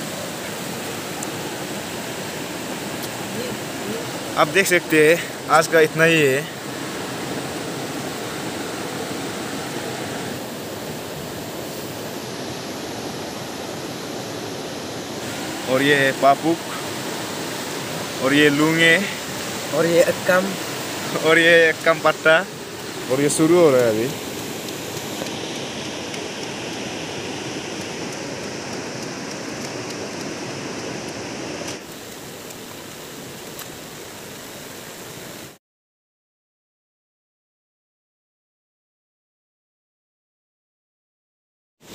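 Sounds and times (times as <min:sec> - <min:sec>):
river rushing: 0:00.0 - 0:35.6.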